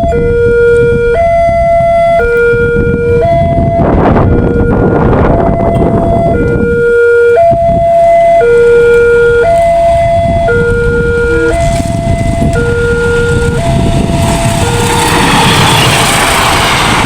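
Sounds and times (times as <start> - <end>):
two-tone level crossing siren: 0.0 - 16.8
low rumble: 0.0 - 17.0.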